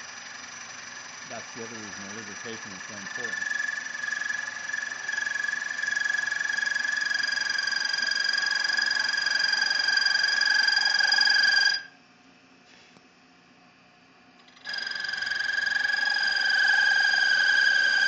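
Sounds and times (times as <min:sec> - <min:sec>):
milling cutter whining: 0:00.0 - 0:11.9, 0:14.4 - 0:18.0.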